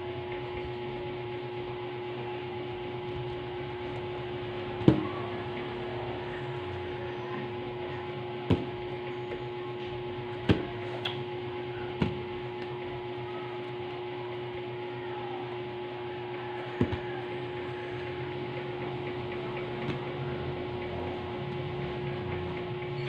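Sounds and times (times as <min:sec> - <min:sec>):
machine hum with held tone: 0:00.0 - 0:23.0.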